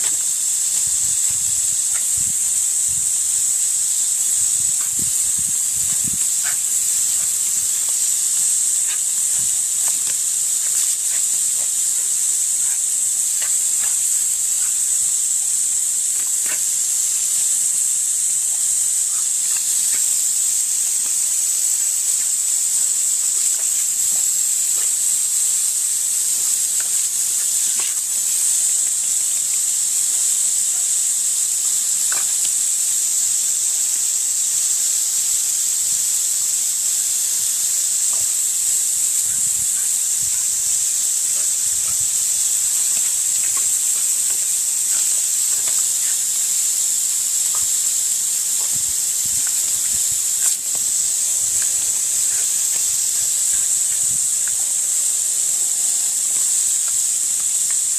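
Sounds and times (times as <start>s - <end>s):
hose nozzle spraying water: 0.0s - 57.9s.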